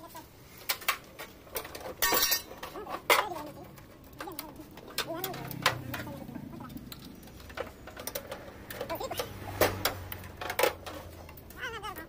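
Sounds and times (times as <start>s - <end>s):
sharp clicks and knocks: 0.6s - 11.6s.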